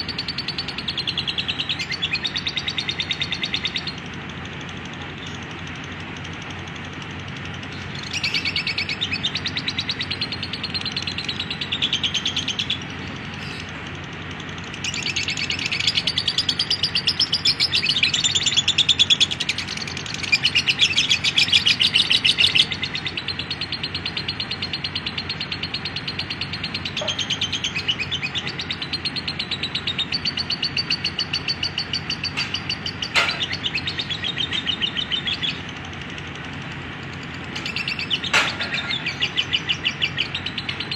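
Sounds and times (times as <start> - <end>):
lovebird chattering trill: 0.0 - 4.1, 7.7 - 13.8, 14.6 - 40.9.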